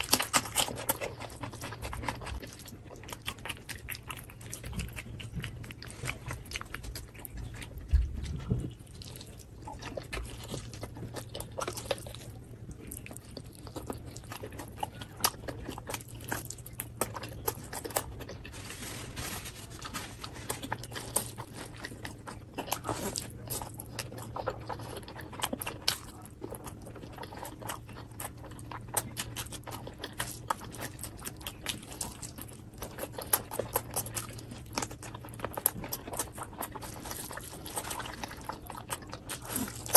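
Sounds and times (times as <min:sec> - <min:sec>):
faint low hum: 0:00.0 - 0:39.9
person chewing food: 0:00.0 - 0:39.9.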